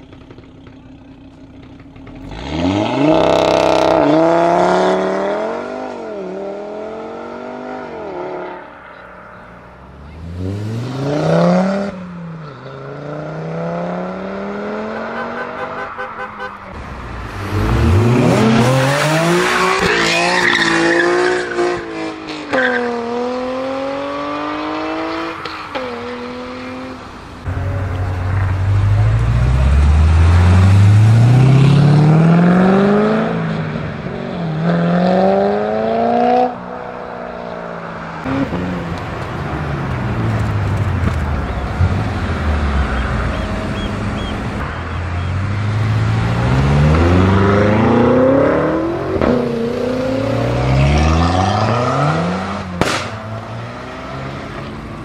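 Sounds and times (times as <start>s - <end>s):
sports car engines accelerating: 0.0s - 15.9s, 16.6s - 55.0s.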